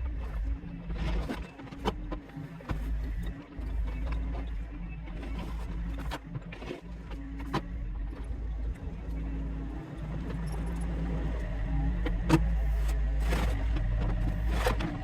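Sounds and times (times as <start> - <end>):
heavy equipment engine running: 0.0 - 15.0.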